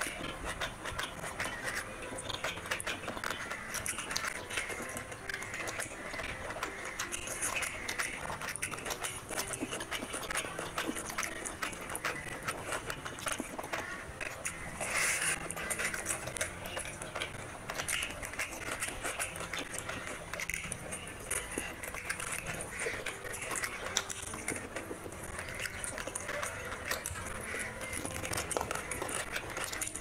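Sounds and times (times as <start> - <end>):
sticky clicks: 0.0 - 30.0
wet chewing and lip smacking: 0.0 - 30.0.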